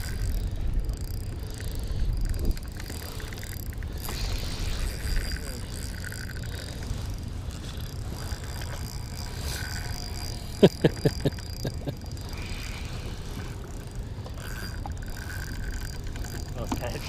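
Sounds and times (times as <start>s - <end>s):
fishing reel cranking: 0.0s - 17.0s
wind and water rumble: 0.0s - 17.0s.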